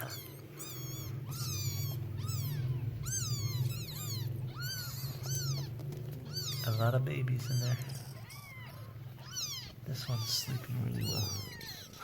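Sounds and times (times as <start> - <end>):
kittens mewing: 0.0 - 12.0
steady low hum: 0.0 - 12.0.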